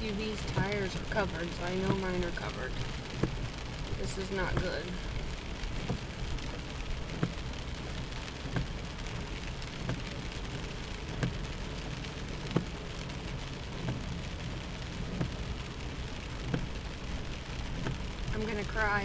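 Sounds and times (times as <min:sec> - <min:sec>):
heavy rain drumming on car: 0:00.0 - 0:19.0
low steady rumble: 0:00.0 - 0:19.0.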